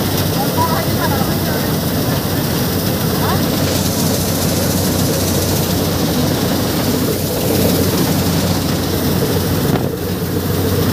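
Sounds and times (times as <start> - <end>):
engine humming: 0.0 - 10.9
loud rumbling noise: 0.0 - 10.9.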